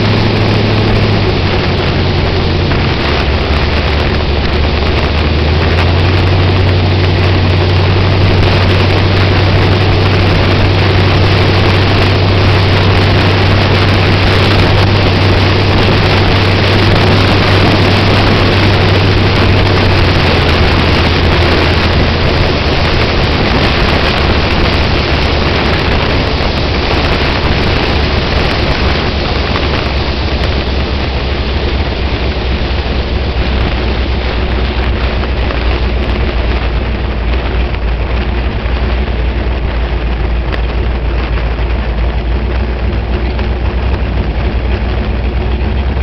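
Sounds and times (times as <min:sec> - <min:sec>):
race car engine running: 0:00.0 - 0:46.0
wind noise on microphone: 0:00.0 - 0:46.0.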